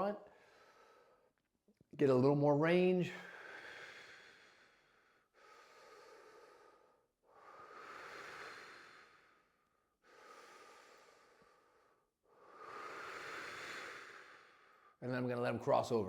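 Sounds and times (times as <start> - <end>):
person breathing slowly: 0.2 - 1.4, 3.2 - 15.0.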